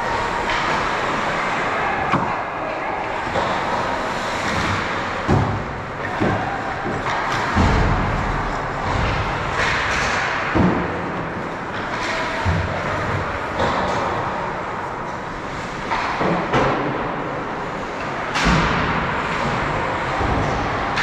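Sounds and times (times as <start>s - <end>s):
knocks against rink boards: 0.4s - 2.5s, 3.1s - 14.4s, 15.6s - 17.1s, 18.0s - 21.0s.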